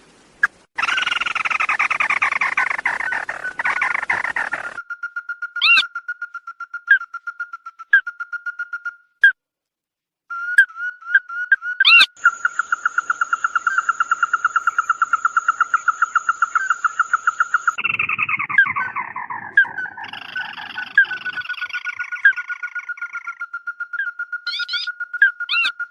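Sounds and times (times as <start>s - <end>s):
rough overlapping bird calls: 0.8s - 8.9s, 10.5s - 25.9s
bird calling in rapid notes: 0.8s - 9.4s, 10.3s - 25.9s.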